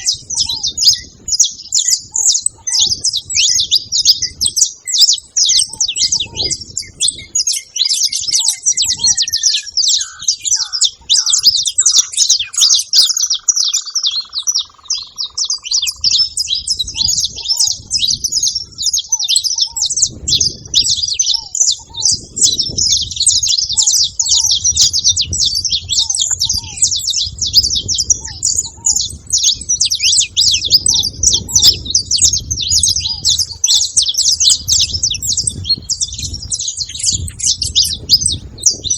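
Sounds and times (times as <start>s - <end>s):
finches chirping chorus: 0.0s - 38.9s.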